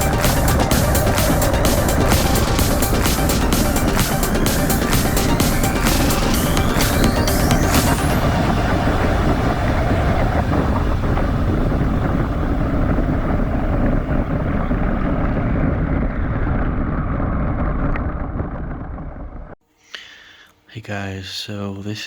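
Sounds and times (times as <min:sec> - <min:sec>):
wind on microphone: 0:00.0 - 0:19.6.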